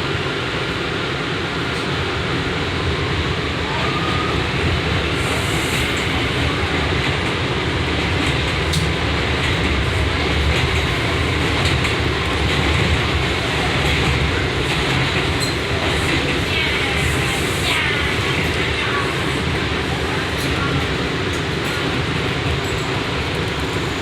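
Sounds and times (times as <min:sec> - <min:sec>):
subway wheels on rails: 0:00.0 - 0:24.0.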